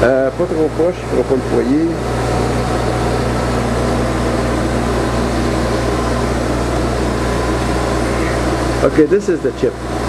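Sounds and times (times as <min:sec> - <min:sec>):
faint machine whine: 0:00.0 - 0:10.0
shop machinery humming: 0:00.0 - 0:10.0.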